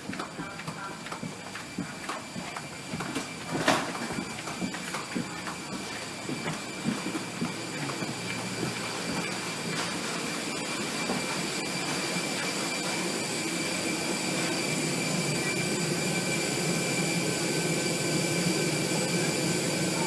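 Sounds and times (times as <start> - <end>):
high steady jet whine: 0.0 - 20.0.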